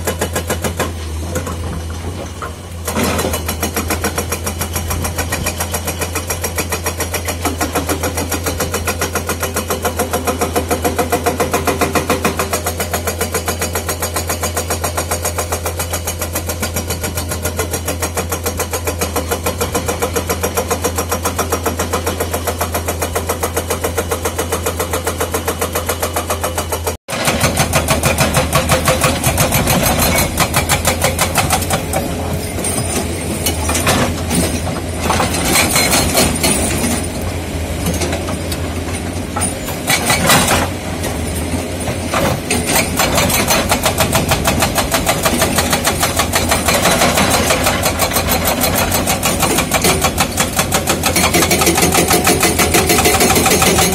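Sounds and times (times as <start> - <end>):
excavator engine running: 0.0 - 53.9
hydraulic breaker hammering rock: 0.0 - 53.9.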